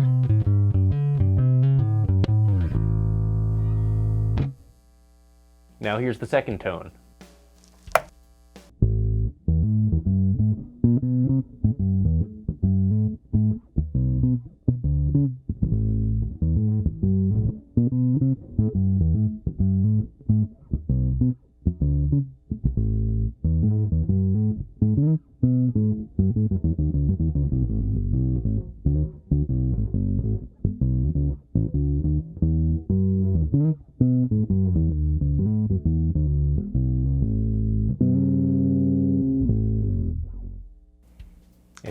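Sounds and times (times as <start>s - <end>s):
electric bass plucked notes: 0.0s - 4.6s, 8.8s - 40.9s.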